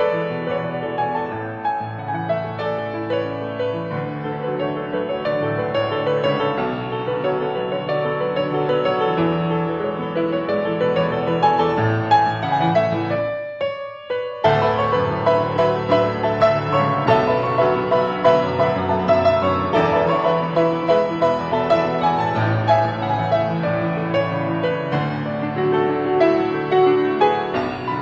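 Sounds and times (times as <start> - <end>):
piano melody: 0.0 - 28.0.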